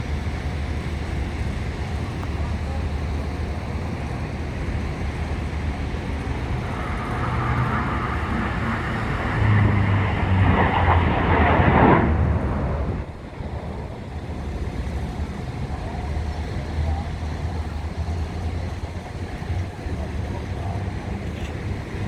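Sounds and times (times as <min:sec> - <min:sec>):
aircraft passing by: 0:00.0 - 0:22.0
wind rumble on microphone: 0:00.0 - 0:22.0.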